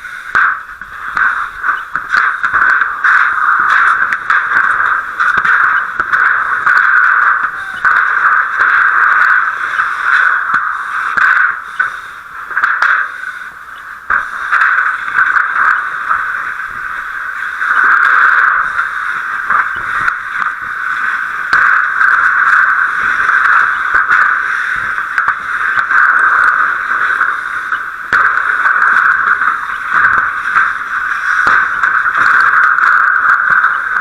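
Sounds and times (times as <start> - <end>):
loud steady hiss: 0.0 - 34.0.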